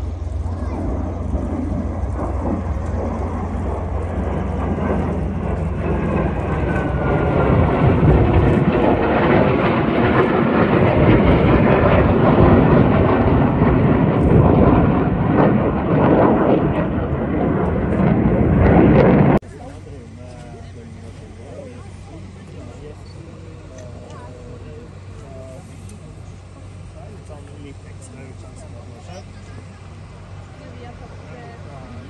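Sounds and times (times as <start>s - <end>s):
fighter jets flying over: 0.0s - 32.0s.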